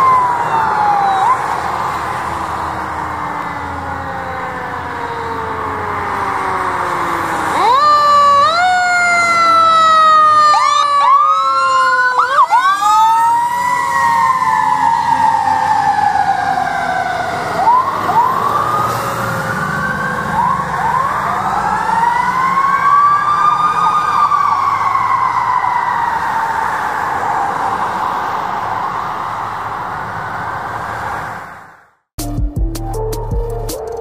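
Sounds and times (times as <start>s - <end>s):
fire engine siren wailing: 0.0s - 31.9s.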